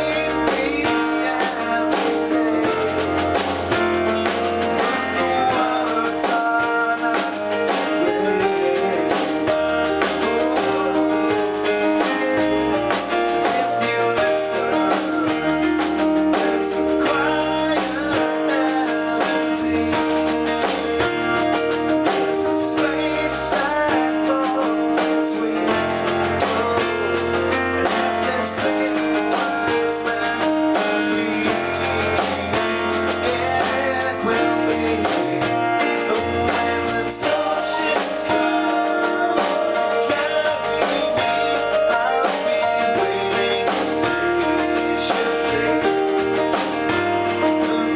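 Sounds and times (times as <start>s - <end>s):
bass line: 0.0s - 47.9s
drums with cymbals: 0.0s - 47.9s
guitar: 0.0s - 47.9s
sustained keyboard notes: 0.0s - 47.9s.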